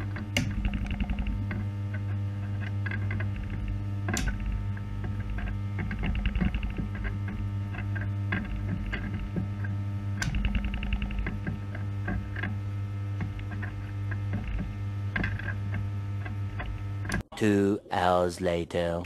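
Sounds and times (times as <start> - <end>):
arc welder humming: 0.0 - 17.2
welding arc crackling and popping: 0.0 - 17.2.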